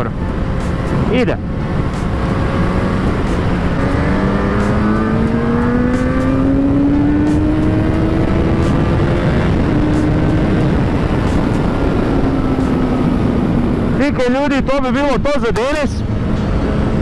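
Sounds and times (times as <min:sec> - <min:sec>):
wind rush: 0:00.0 - 0:17.0.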